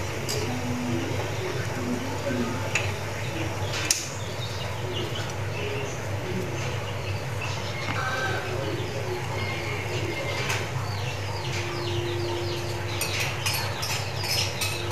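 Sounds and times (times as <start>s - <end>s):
birds chirping: 0.0s - 14.9s
steady low hum: 0.0s - 14.9s.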